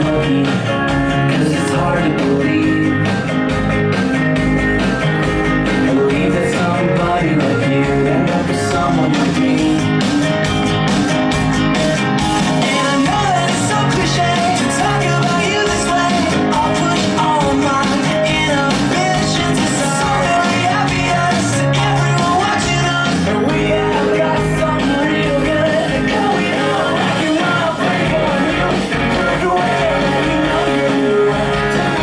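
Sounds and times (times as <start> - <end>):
rock song with singing: 0.0 - 32.0.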